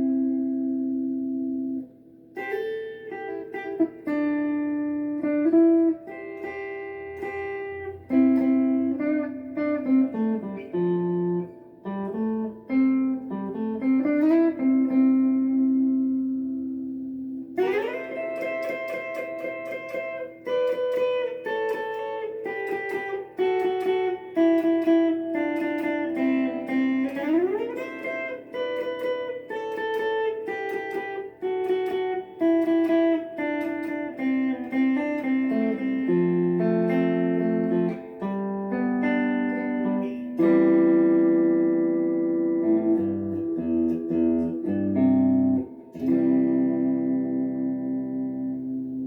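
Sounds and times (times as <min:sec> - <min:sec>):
electric guitar melody: 0:00.0 - 0:49.0.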